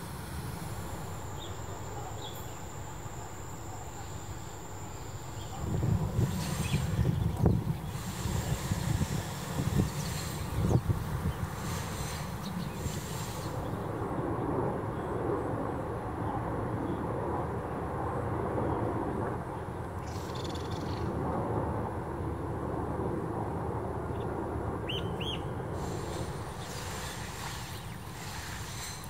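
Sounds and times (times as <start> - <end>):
outdoor rumble and hiss: 0.0 - 29.0.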